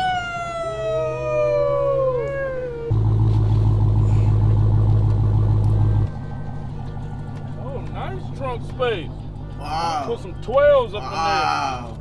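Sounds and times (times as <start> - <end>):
car engine idling: 1.6 - 12.0.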